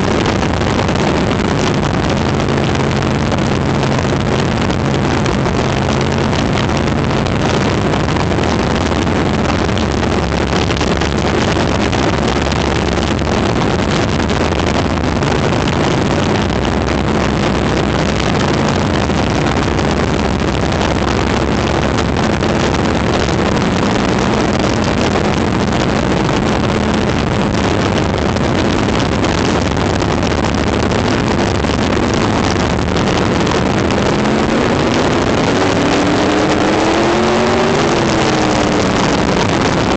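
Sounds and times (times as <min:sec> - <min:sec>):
race car engine running hard: 0:00.0 - 0:39.9
wind and track noise: 0:00.0 - 0:39.9.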